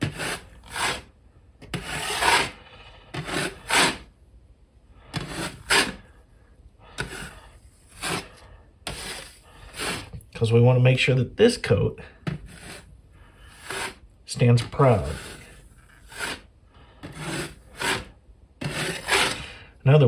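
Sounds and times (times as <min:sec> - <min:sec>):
drywall knife scraping compound: 0:00.0 - 0:04.1, 0:05.0 - 0:06.2, 0:06.9 - 0:10.2, 0:12.2 - 0:19.7.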